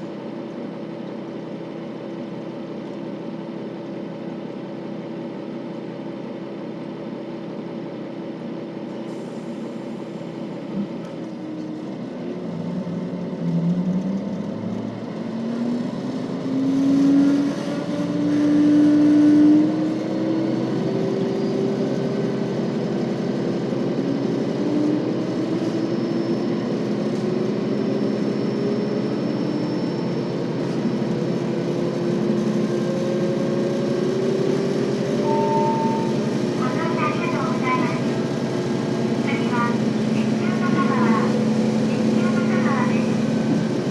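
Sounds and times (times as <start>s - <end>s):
diesel railcar engine revving: 0.0s - 43.9s
train whine: 7.0s - 43.9s.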